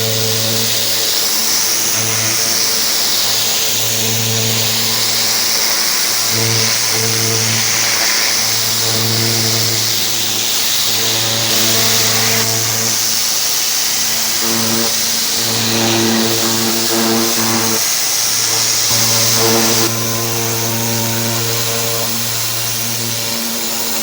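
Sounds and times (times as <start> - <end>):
machine hum: 0.0 - 24.0
pressure washer water jet hissing: 0.0 - 24.0.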